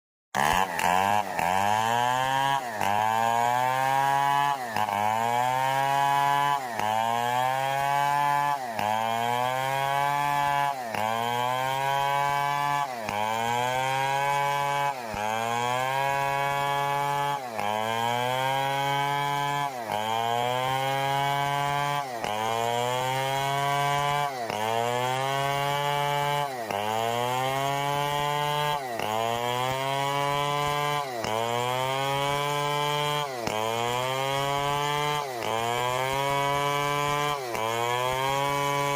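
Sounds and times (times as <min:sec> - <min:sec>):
chainsaw cutting wood: 0:00.3 - 0:38.9.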